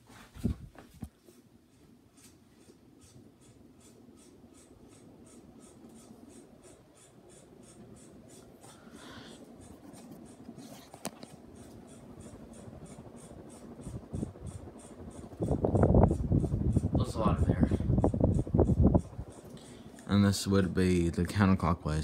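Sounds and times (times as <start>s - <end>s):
ceiling fan humming and ticking: 0.0s - 22.0s.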